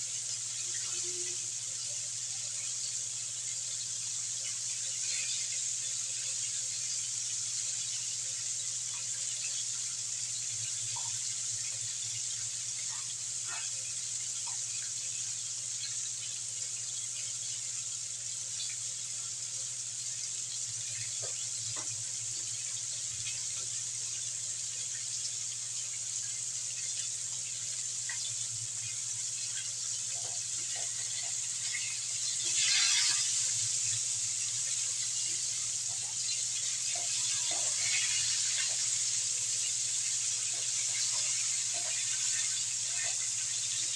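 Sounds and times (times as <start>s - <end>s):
oil sizzling and popping: 0.0s - 43.9s.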